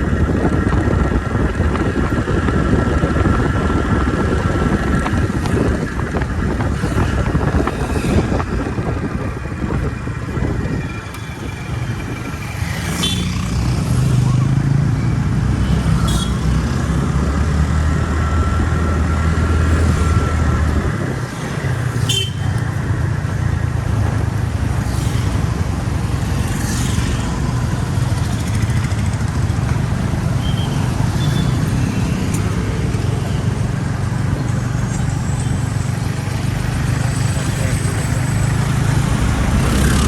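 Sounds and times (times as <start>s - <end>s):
vehicle engine rumble: 0.0s - 40.0s.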